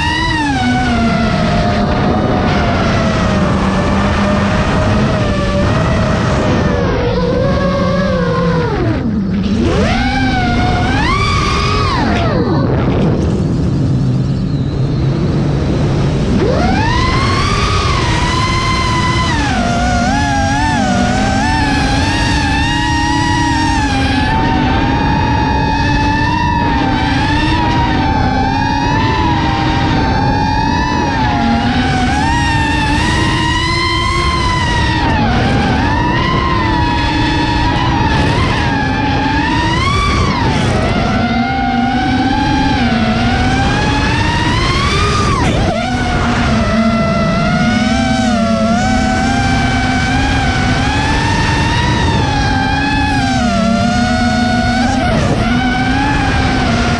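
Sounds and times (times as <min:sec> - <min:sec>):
drone motors whining: 0:00.0 - 0:56.9
rushing rumble: 0:00.0 - 0:56.9.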